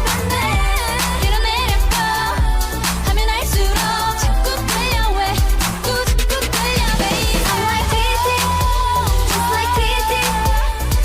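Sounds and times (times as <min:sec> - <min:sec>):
pop song with vocals: 0:00.0 - 0:11.0.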